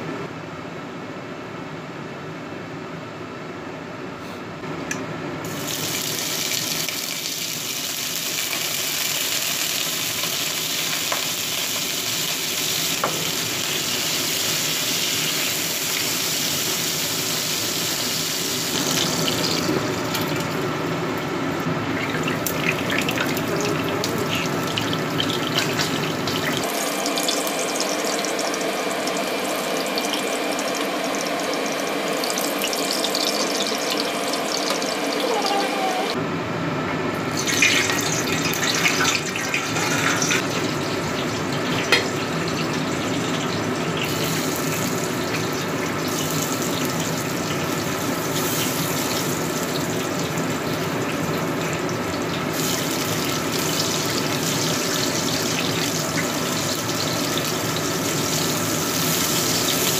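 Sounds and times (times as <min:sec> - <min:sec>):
oil sizzling in frying pan: 0:05.4 - 0:36.1, 0:37.3 - 0:59.9.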